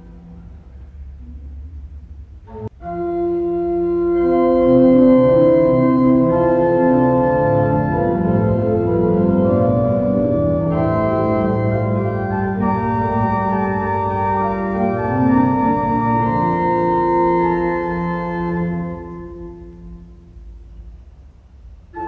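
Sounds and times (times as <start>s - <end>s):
organ chords: 1.8s - 22.0s.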